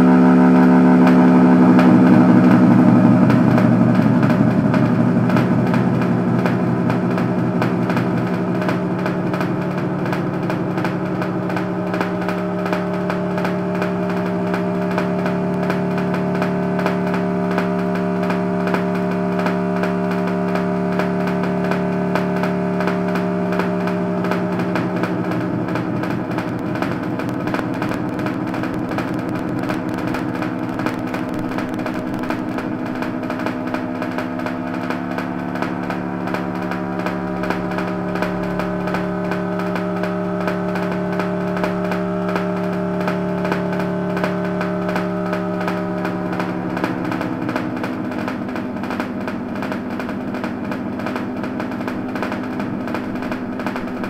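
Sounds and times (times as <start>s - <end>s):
buzzing drone: 0.0s - 54.0s.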